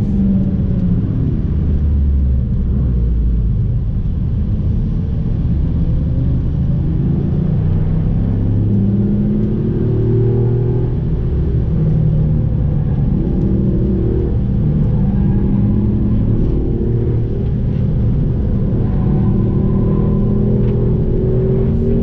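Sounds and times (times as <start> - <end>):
car engine accelerating: 0.0 - 22.0
road rumble inside car: 0.0 - 22.0.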